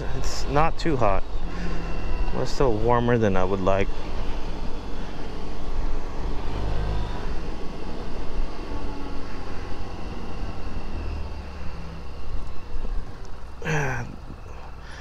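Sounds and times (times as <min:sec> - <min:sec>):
scooter engine running: 0:00.0 - 0:15.0.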